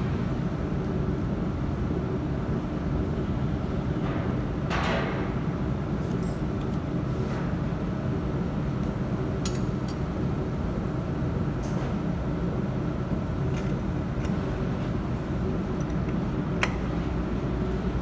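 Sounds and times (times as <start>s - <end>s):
workshop machinery humming: 0.0s - 18.0s.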